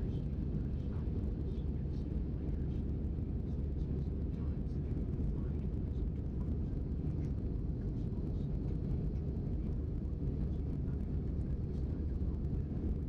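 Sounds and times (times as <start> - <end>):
jet airliner cabin rumble: 0.0 - 13.0.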